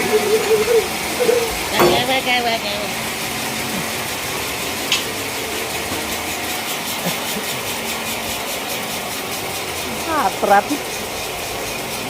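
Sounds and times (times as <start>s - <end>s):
sawmill machinery idling: 0.0s - 12.0s.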